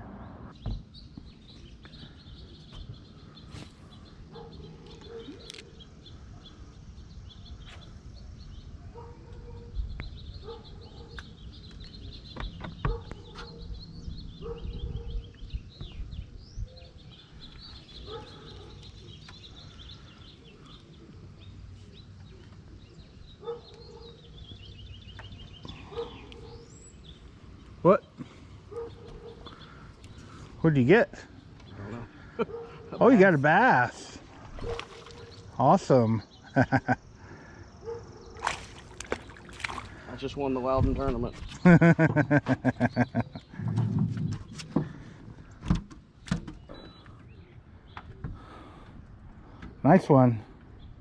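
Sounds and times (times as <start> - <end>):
birds chirping and trilling: 0.0 - 51.0
low bird calls: 0.1 - 51.0.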